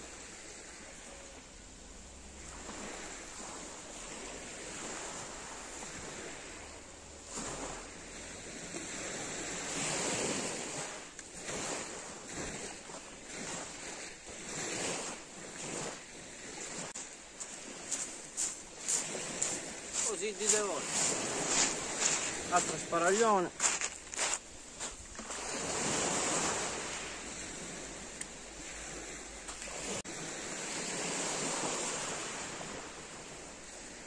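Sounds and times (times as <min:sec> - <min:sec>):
waves washing up pebble beach: 0:02.3 - 0:34.0.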